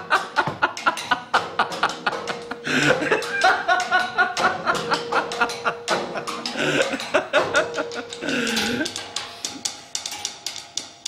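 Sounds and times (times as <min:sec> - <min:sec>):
man laughing heartily: 0:00.0 - 0:09.5
music with a held note: 0:00.1 - 0:11.0.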